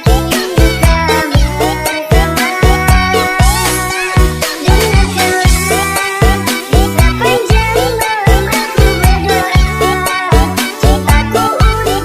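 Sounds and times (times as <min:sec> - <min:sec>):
dance remix music: 0:00.0 - 0:12.0.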